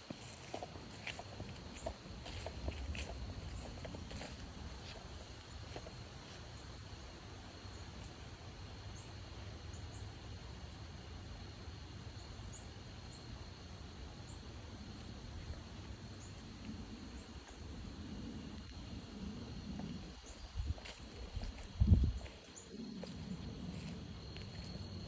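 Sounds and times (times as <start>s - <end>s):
high insect drone: 0.0s - 25.0s
low rumble of wind: 0.0s - 25.0s.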